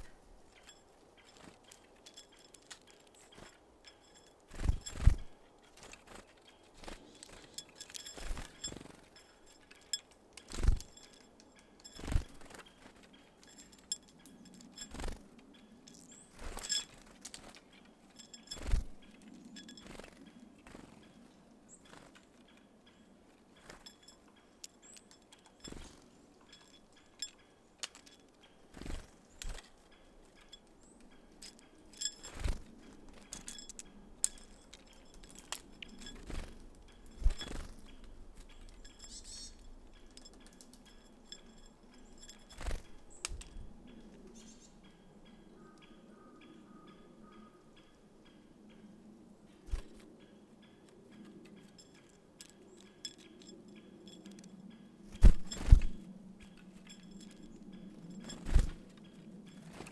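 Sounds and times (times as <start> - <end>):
birds pecking at feeder: 0.0 - 44.4, 50.8 - 59.9.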